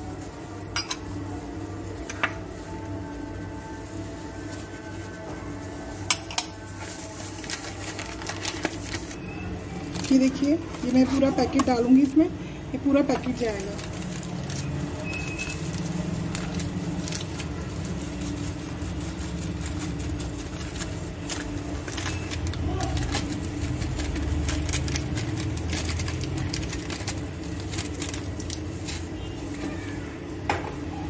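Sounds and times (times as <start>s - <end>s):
foil packet crinkling: 0.0s - 31.0s.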